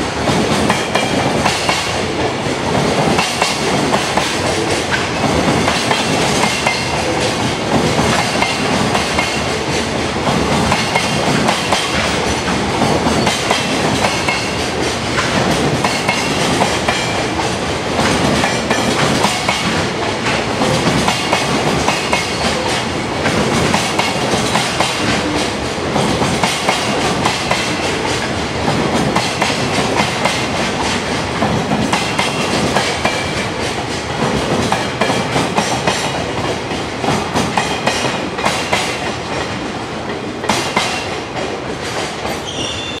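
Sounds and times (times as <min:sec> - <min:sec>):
freight train rumble: 0:00.0 - 0:43.0
wheels clacking over rail joints: 0:00.2 - 0:43.0.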